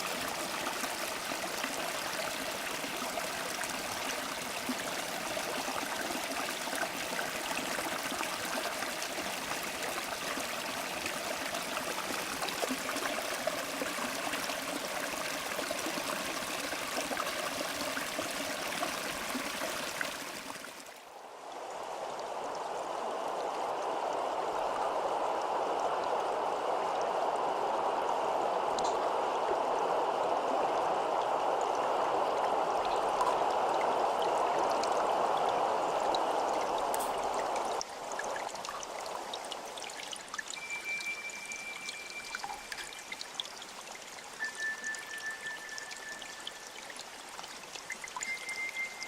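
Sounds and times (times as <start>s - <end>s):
stream flowing over rocks: 0.0s - 49.0s.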